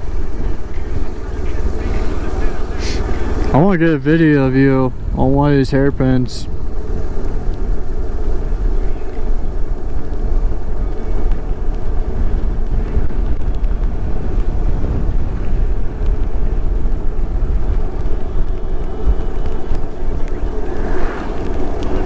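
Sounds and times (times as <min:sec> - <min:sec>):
motorcycle engine running: 0:00.0 - 0:22.0
wind rumble on microphone: 0:00.0 - 0:22.0.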